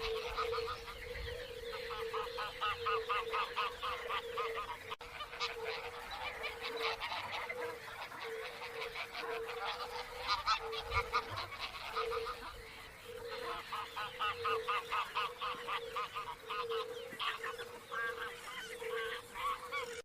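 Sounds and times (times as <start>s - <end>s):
birds honking calls: 0.0s - 20.0s.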